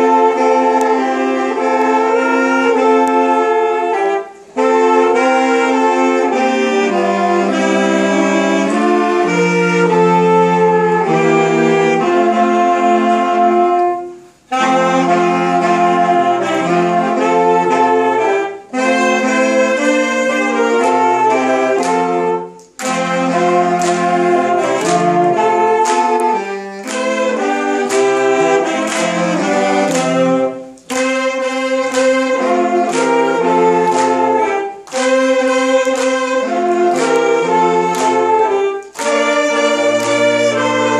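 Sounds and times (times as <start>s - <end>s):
saxophone ensemble playing carols: 0.0s - 40.9s.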